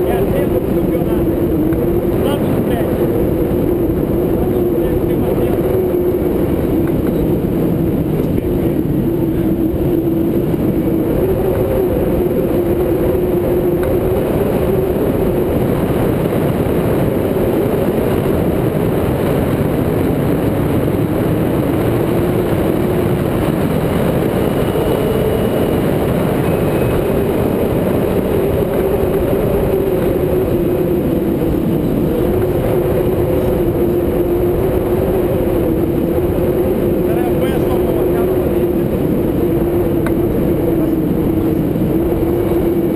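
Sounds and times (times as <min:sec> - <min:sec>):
low wavering hum: 0:00.0 - 0:42.9
wind rushing over microphone: 0:00.0 - 0:42.9.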